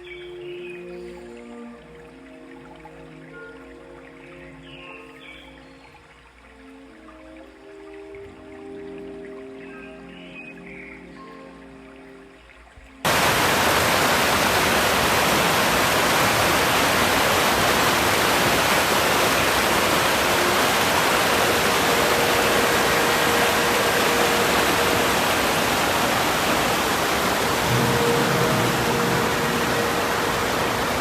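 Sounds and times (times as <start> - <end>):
water rushing over weir: 5.4 - 31.0.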